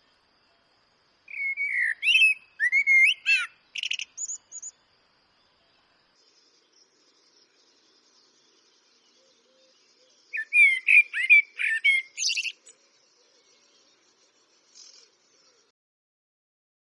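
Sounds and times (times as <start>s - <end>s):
blackbird singing: 0.6s - 4.8s, 5.4s - 15.7s.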